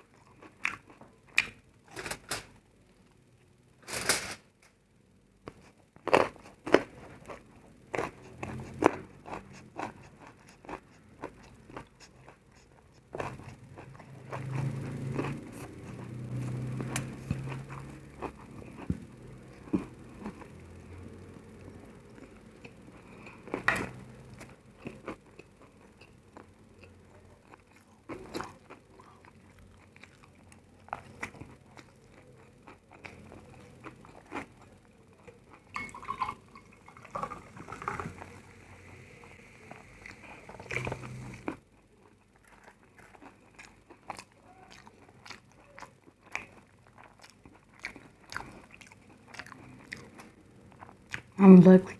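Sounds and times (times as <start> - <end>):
chewing crunchy food: 0.0 - 1.6, 5.4 - 36.0, 36.6 - 51.4.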